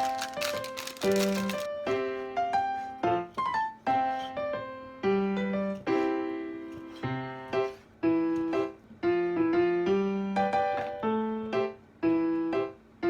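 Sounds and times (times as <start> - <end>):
piano music: 0.0 - 12.8.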